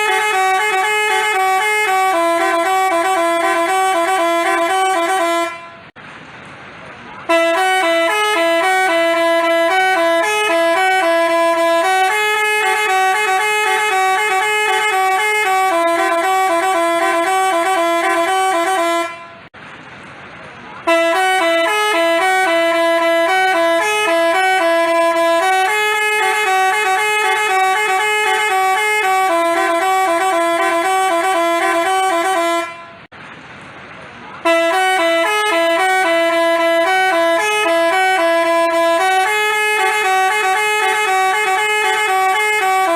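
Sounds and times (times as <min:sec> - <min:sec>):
bus horn playing tune: 0:00.0 - 0:06.0, 0:07.2 - 0:19.5, 0:20.8 - 0:33.1, 0:34.4 - 0:42.9.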